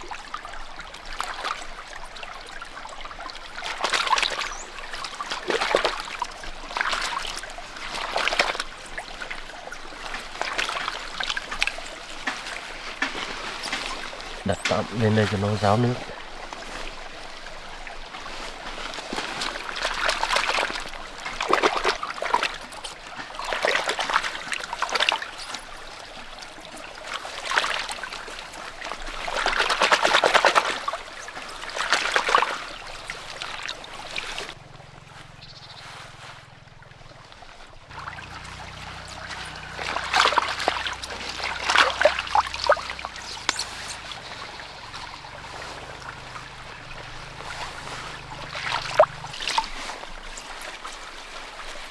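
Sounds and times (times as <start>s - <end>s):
water splashing and trickling: 0.0s - 51.9s.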